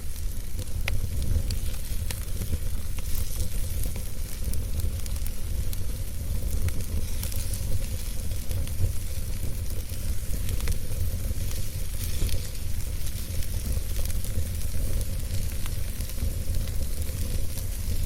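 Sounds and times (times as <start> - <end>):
campfire crackles: 0.0 - 18.0
campfire rumble and hiss: 0.0 - 18.0.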